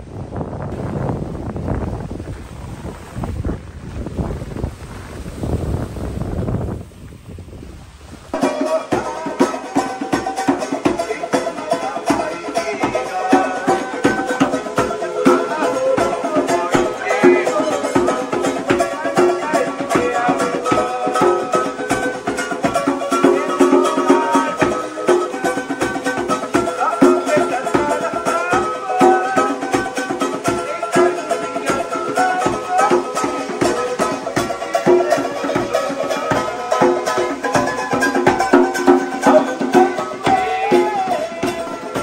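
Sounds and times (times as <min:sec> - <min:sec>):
music with a fast beat: 0:08.4 - 0:42.0.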